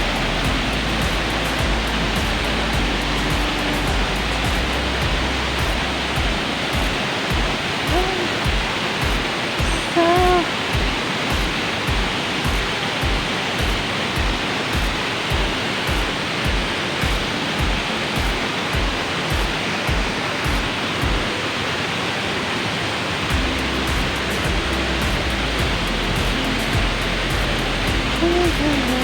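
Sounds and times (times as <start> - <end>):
music with deep drum beat: 0.0 - 21.2, 23.3 - 29.0
waterfall rushing: 0.0 - 29.0.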